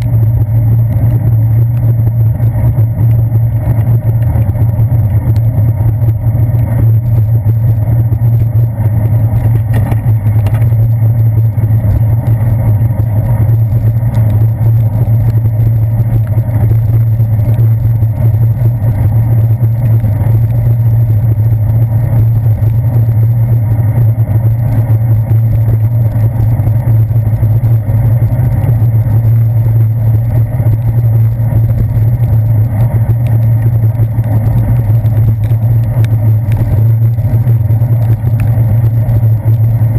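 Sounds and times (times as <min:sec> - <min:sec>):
bicycle riding over wet pavement: 0:00.0 - 0:39.9.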